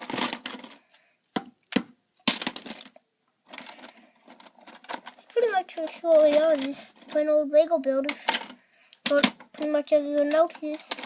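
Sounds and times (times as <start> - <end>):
plastic bricks clattering: 0.0 - 11.0.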